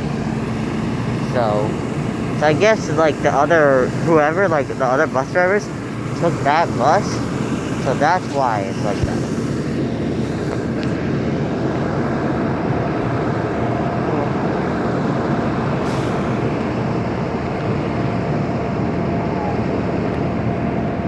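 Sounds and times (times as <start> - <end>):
bus engine running: 0.0 - 21.0.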